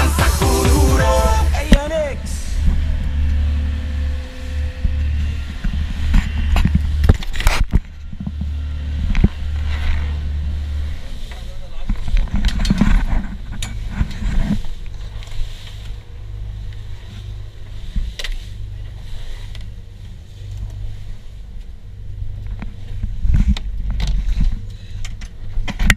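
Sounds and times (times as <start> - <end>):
motorboat engine humming: 0.0 - 25.9
wind and water noise: 0.0 - 25.9.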